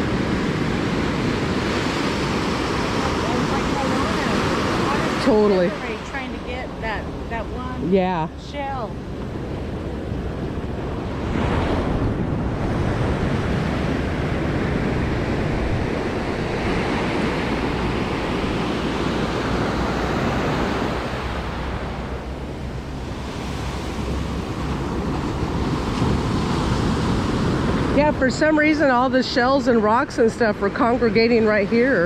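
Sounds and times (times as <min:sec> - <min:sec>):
ocean surf washing up: 0:00.0 - 0:32.0
wind buffeting microphone: 0:00.0 - 0:32.0.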